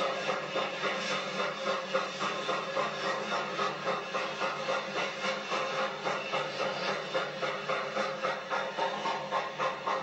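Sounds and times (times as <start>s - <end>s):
steam hiss: 0.0s - 10.0s
steam train running: 0.0s - 10.0s.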